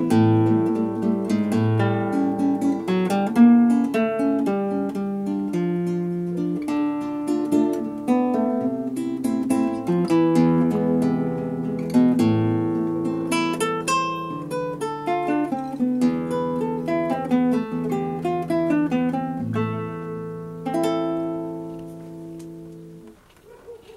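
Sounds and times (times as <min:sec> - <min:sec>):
classical guitar fingerpicking: 0:00.0 - 0:23.9.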